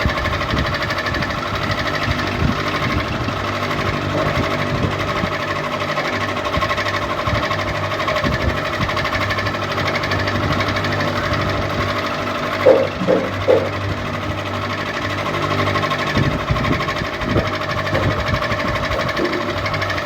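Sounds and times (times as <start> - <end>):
ceiling fan rattling and humming: 0.0 - 20.0.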